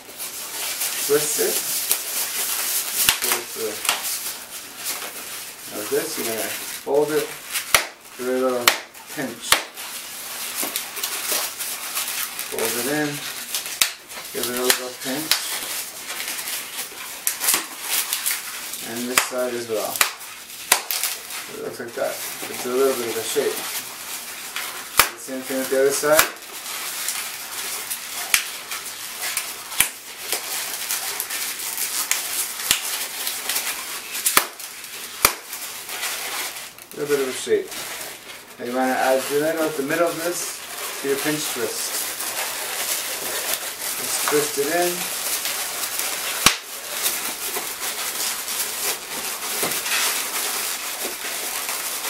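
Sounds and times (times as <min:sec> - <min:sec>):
balloon squeaking and rubbing: 0:00.0 - 0:52.0.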